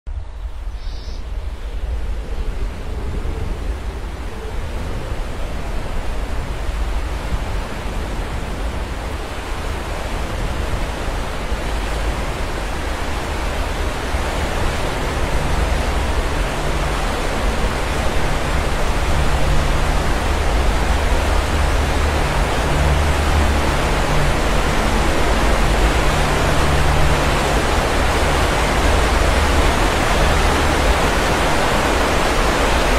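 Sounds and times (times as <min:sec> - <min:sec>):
waterfall rushing: 0:01.2 - 0:32.9.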